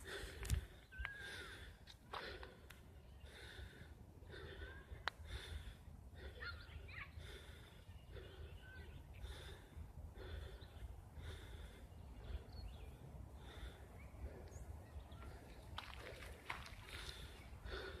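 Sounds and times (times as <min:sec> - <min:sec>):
person breathing hard: 0:00.0 - 0:18.0.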